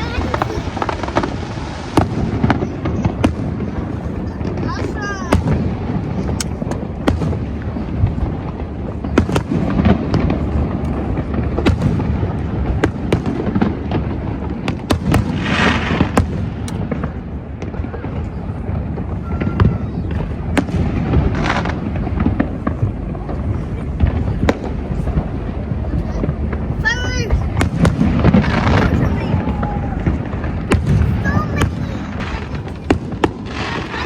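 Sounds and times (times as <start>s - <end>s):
firework bangs and booms: 0.0s - 34.0s
firework crackling: 0.0s - 34.0s.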